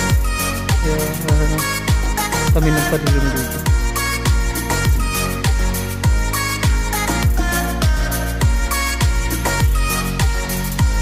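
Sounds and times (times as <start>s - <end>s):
deep kick drum: 0.1s - 11.0s.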